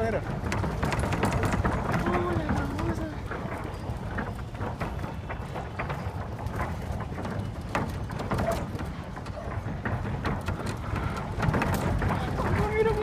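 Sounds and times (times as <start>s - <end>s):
building knocking and rattling: 0.0s - 13.0s.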